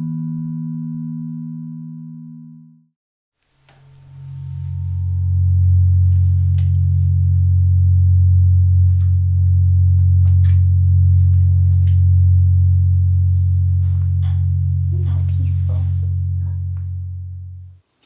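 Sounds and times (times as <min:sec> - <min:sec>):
singing bowls droning: 0:00.0 - 0:02.8, 0:03.6 - 0:17.8.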